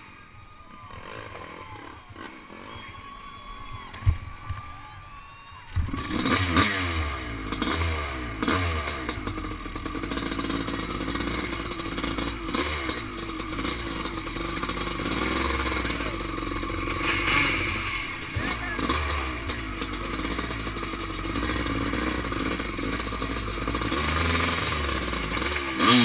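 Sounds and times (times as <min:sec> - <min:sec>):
dirt bike engine revving: 0:00.7 - 0:03.4, 0:05.8 - 0:26.0.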